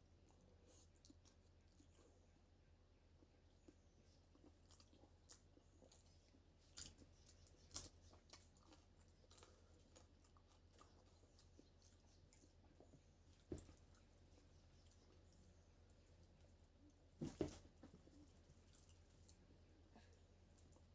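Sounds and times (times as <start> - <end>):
faint chewing: 0.0 - 20.9.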